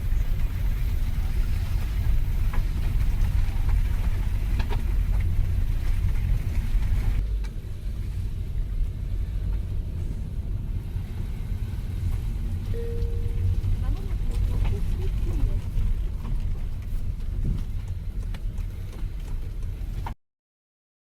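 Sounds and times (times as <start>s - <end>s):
car rumble from inside cabin: 0.0s - 20.2s.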